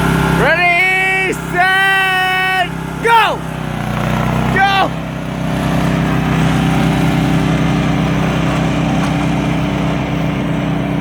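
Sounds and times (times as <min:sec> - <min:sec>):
lawn mower engines running: 0:00.0 - 0:11.0.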